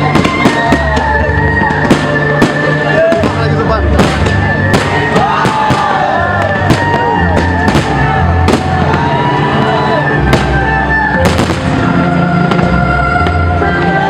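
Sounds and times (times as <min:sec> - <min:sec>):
fireworks bangs: 0:00.0 - 0:13.7
music playing: 0:00.0 - 0:14.0.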